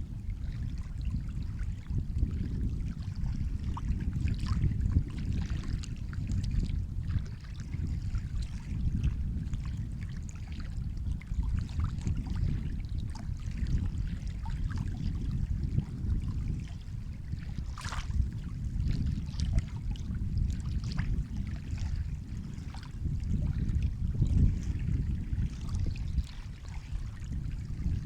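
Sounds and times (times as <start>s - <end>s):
water splashing and trickling: 3.7s - 27.9s.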